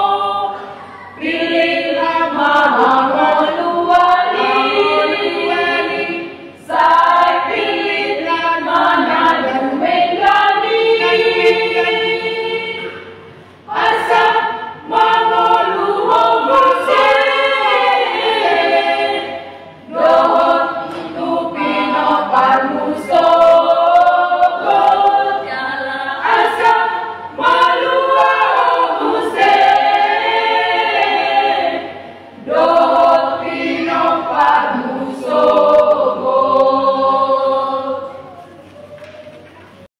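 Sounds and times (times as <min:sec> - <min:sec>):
women's choir singing: 0:00.0 - 0:38.4.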